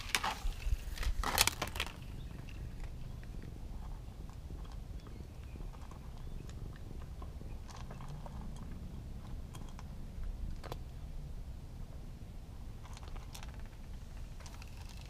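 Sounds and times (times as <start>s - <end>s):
cat crunching dry kibble: 0.0s - 10.9s, 12.8s - 15.0s
low steady rumble: 0.0s - 15.0s.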